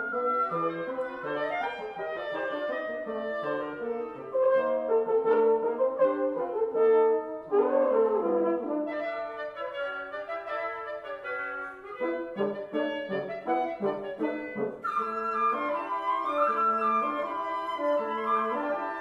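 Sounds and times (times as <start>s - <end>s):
woodwind quintet playing classical: 0.0s - 19.0s.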